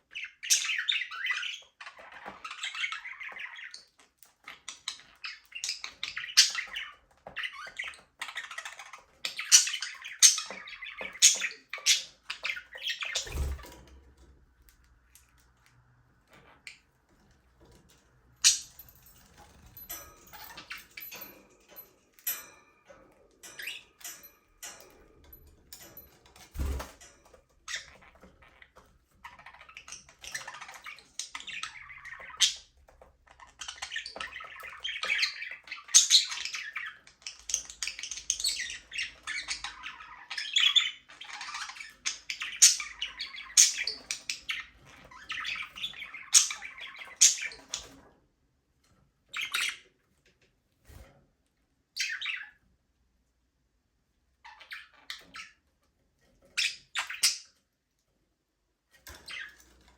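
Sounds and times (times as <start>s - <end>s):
budgerigars chirping and chattering: 0.0s - 14.0s, 18.4s - 48.1s, 49.3s - 50.0s, 52.0s - 52.6s, 54.4s - 55.8s, 56.4s - 57.6s, 59.1s - 59.9s.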